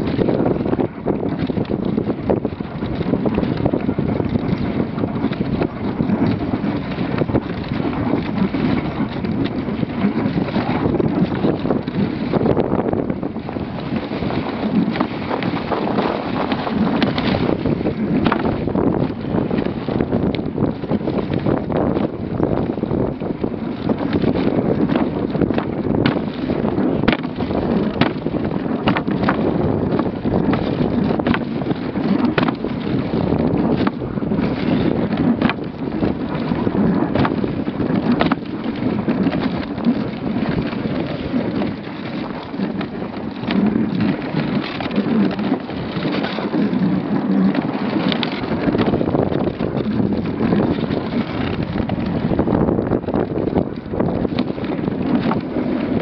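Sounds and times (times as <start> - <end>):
sled frame rattling: 0.0 - 56.0
sled runners scraping snow: 0.0 - 56.0
wind buffeting microphone: 0.0 - 56.0.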